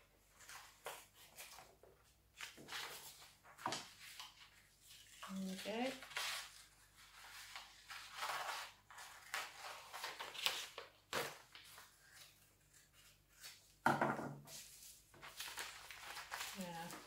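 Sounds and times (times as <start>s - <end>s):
paper rustling: 0.2s - 13.8s, 14.5s - 17.0s.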